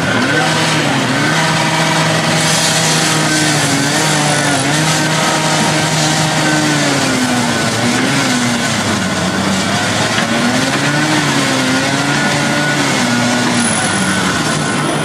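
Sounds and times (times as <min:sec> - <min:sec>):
constant broad noise: 0:00.0 - 0:15.0
excavator engine running: 0:00.0 - 0:15.0.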